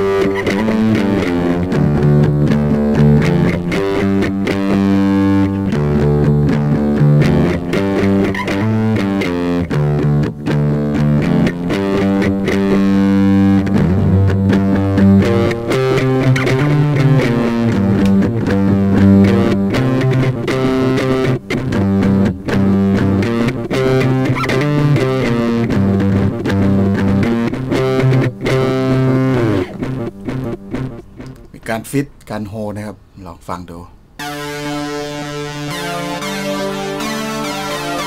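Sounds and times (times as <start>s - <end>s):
guitar band music with echo: 0.0s - 31.5s, 34.2s - 38.0s.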